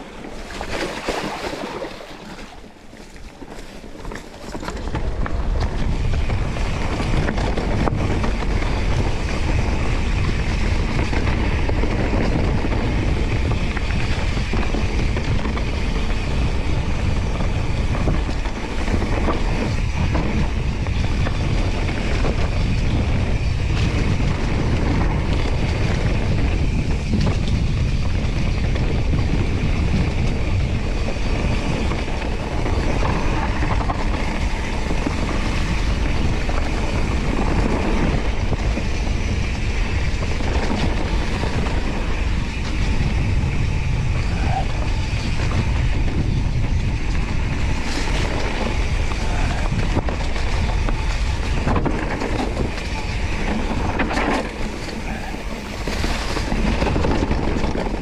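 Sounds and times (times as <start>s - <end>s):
bike rattling: 0.0s - 58.0s
bike tyres rolling: 0.0s - 58.0s
wind buffeting microphone: 0.0s - 58.0s.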